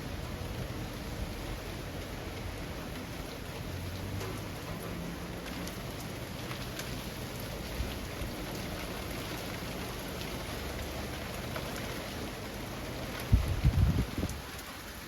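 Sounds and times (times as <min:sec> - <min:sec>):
rain falling through trees: 0:00.0 - 0:15.0.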